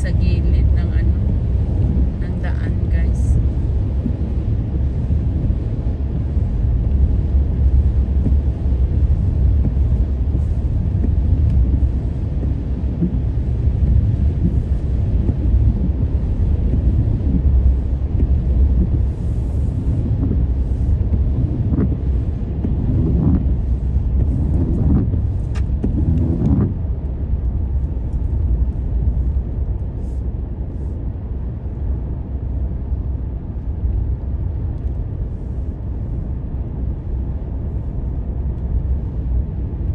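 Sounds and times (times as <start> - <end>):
car cabin road noise: 0.0 - 39.9.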